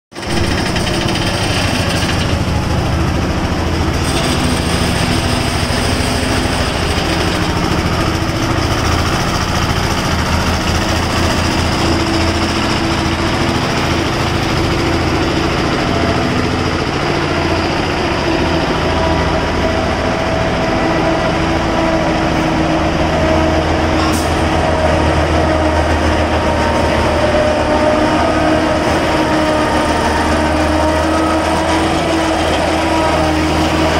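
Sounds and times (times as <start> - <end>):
truck diesel engine droning: 0.1 - 33.9.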